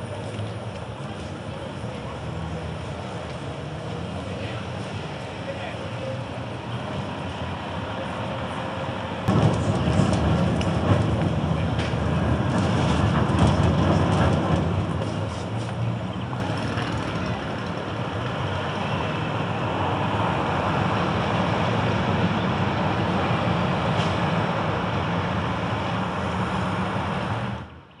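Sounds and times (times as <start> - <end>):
rumbling rail and street traffic: 0.0 - 28.0.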